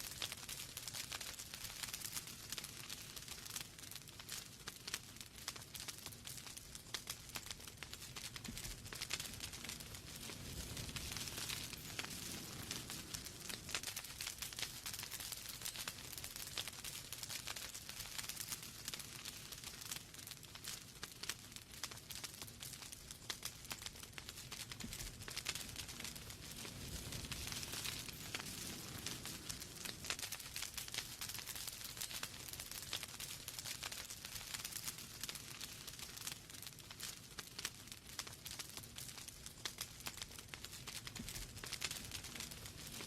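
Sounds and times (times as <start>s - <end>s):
logs crackling and popping: 0.0s - 43.0s
low rumble of flames: 0.0s - 43.0s
fire hissing: 6.9s - 22.2s, 22.8s - 43.0s.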